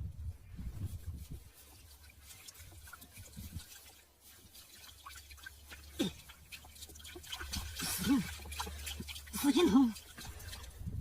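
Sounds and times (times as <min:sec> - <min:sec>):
mud and water squelching: 0:00.6 - 0:11.0.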